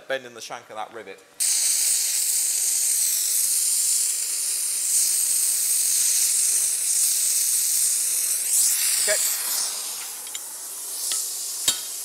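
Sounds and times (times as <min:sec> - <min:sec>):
torch flame hissing: 0:01.4 - 0:12.0.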